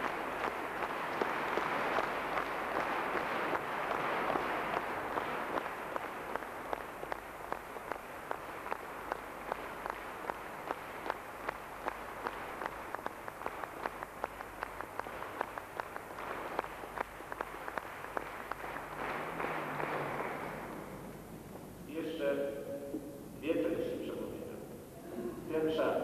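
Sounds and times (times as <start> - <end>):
audience clapping in unison: 0.0 - 21.8.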